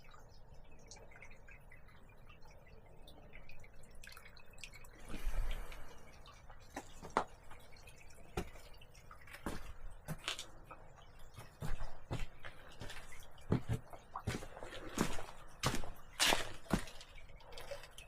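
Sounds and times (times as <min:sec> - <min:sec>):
water dripping: 0:00.0 - 0:18.0.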